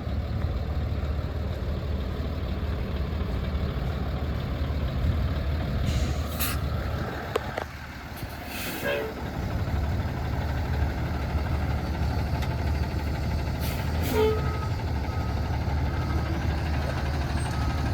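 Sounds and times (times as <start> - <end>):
diesel truck engine idling: 0.0 - 17.9.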